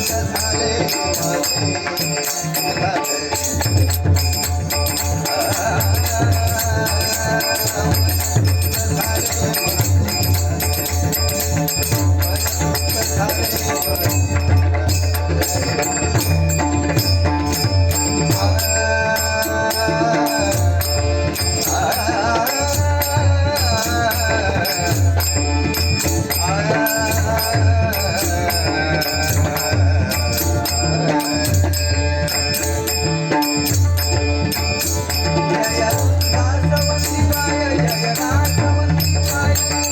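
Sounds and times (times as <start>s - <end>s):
devotional song with chorus: 0.0s - 39.9s
rhythmic percussion: 0.0s - 39.9s.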